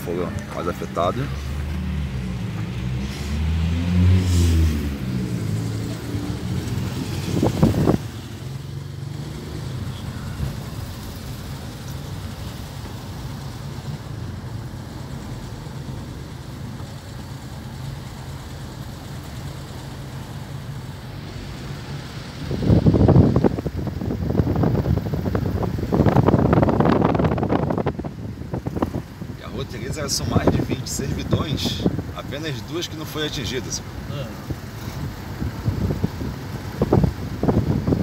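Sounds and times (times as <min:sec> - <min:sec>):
car engine: 0:00.0 - 0:38.0
car road noise rumble: 0:00.0 - 0:38.0.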